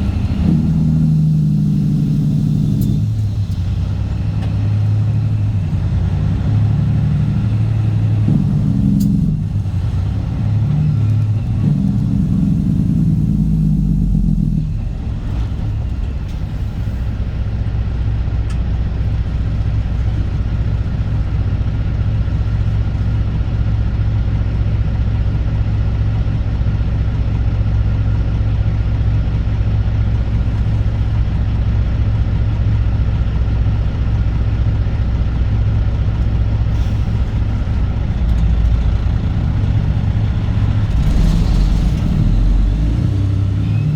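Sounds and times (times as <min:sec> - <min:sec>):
diesel truck engine droning: 0:00.0 - 0:43.9.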